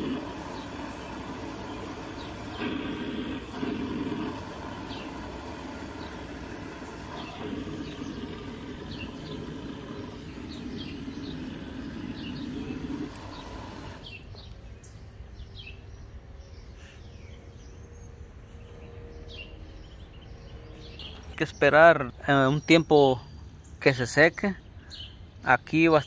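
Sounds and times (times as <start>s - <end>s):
steady low hum: 0.0s - 23.8s
birds chirping: 0.0s - 26.0s.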